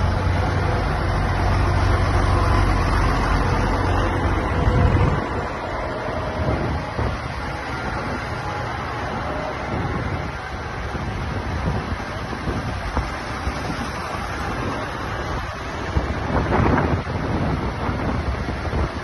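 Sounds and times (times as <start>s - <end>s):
tractor engines driving past: 0.0s - 19.0s
wind noise on microphone: 0.0s - 19.0s.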